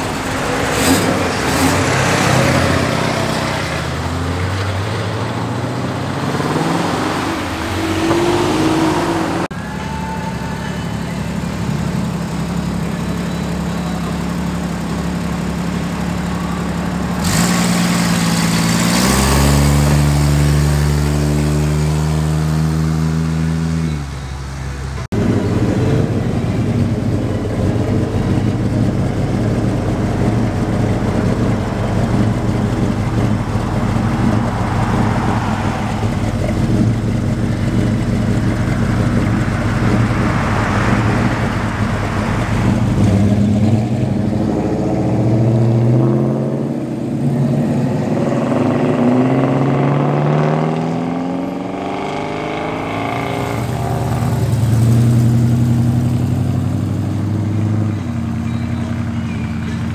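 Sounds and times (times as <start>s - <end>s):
car engine rumbling and revving: 0.0s - 59.9s
second engine approaching: 0.0s - 59.9s.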